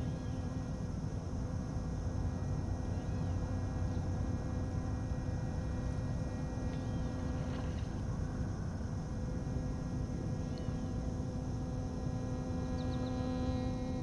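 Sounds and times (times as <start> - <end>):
electric boat motor humming: 0.0 - 14.0.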